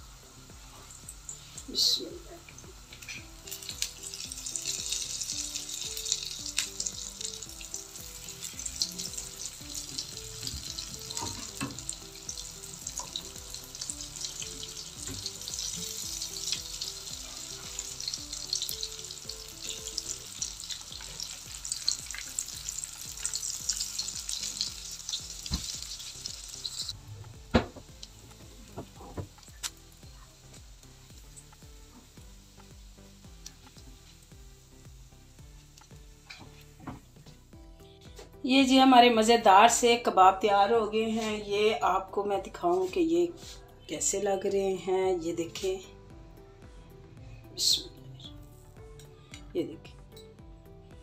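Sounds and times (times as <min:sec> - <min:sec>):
shallow-frying sizzle with pops: 0:00.0 - 0:40.3, 0:41.2 - 0:44.6.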